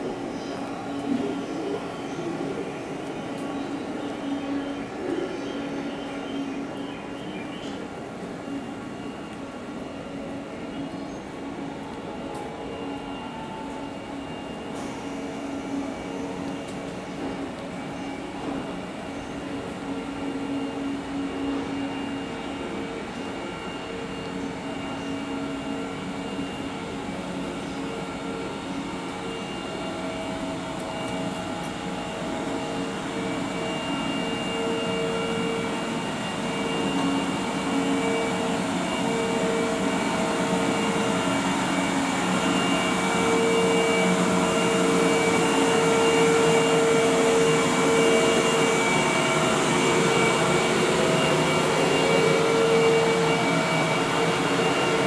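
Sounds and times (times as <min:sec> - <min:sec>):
train equipment humming and whining: 0:00.0 - 0:55.0.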